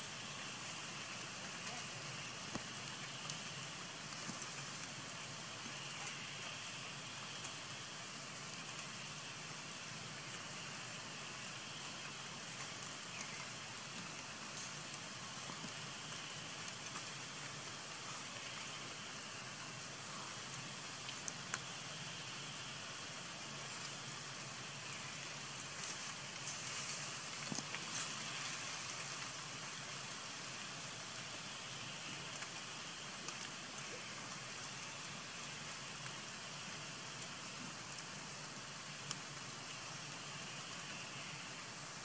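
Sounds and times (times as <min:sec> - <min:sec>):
light rain hiss: 0:00.0 - 0:42.0.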